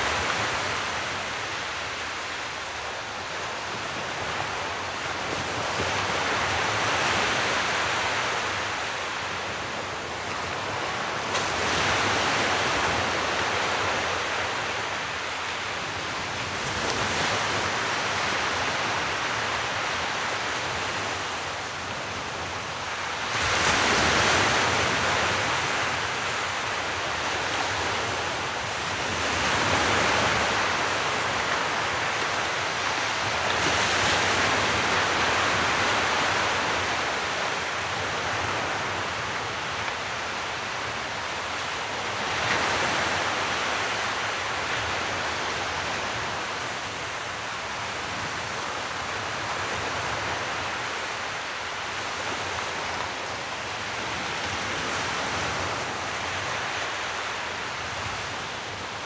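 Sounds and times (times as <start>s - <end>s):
surf hiss: 0.0s - 59.0s.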